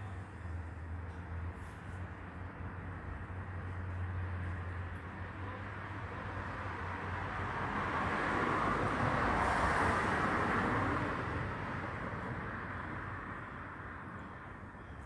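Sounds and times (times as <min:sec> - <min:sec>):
car passing: 0:02.1 - 0:15.0.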